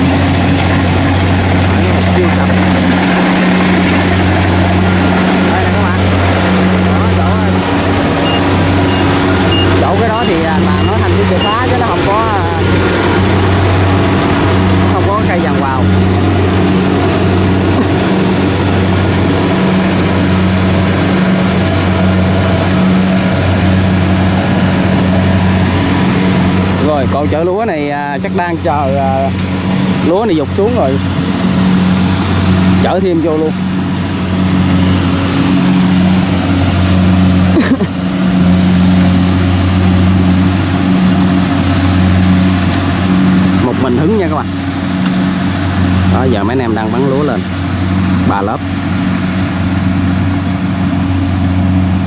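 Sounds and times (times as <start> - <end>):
diesel engine drone: 0.0 - 52.0.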